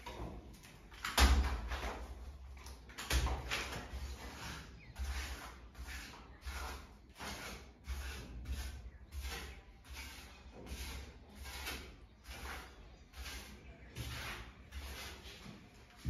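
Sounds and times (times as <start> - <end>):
trowel scraping wet plaster: 0.0 - 16.0.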